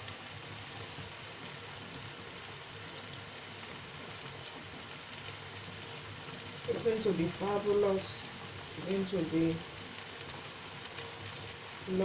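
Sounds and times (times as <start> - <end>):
stew sizzling in a pan: 0.0 - 12.0.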